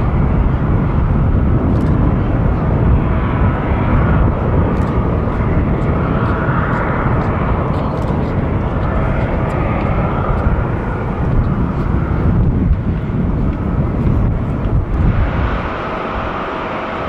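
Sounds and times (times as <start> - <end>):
broad engine rumble: 0.0 - 17.0
jet engine whine: 0.0 - 17.0.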